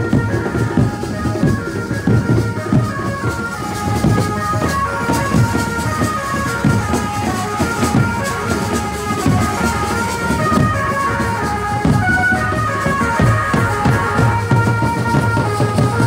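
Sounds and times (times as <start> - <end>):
drums beating: 0.0 - 16.0.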